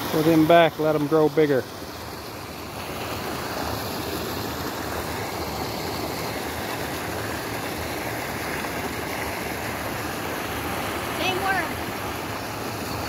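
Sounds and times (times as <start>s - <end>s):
water pouring over a weir: 0.0s - 13.0s.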